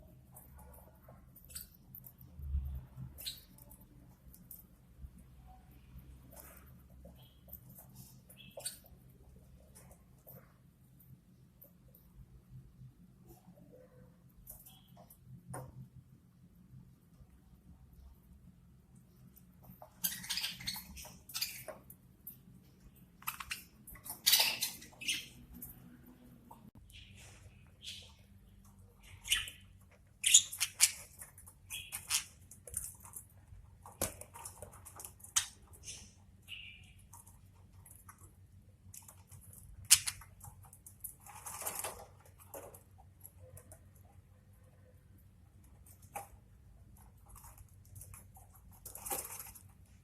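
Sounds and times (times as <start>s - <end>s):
beaks pecking and crunching food: 0.0s - 50.0s.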